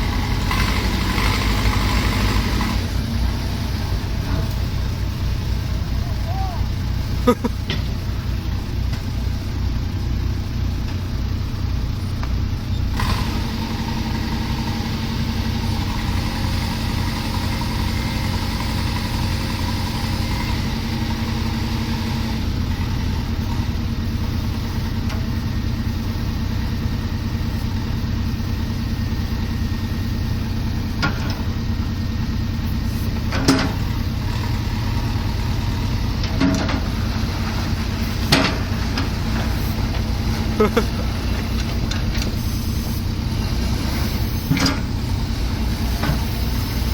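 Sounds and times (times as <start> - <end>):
heavy machinery engine running: 0.0 - 46.9.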